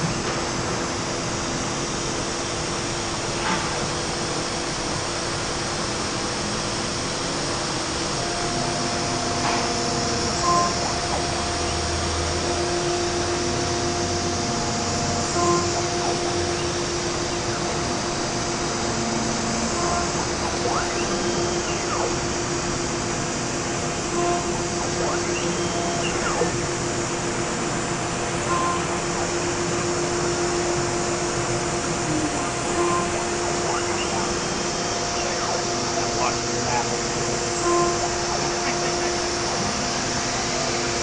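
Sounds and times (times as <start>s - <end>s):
cnc router whining: 0.0s - 41.0s.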